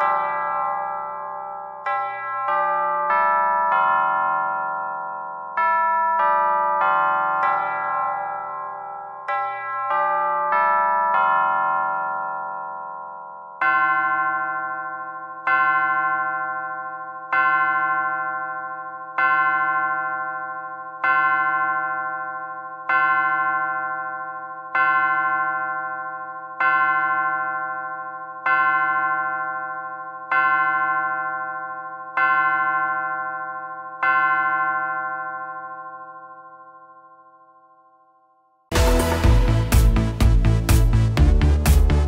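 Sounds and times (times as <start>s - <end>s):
pendulum clock striking: 0.0s - 35.7s, 38.7s - 42.0s.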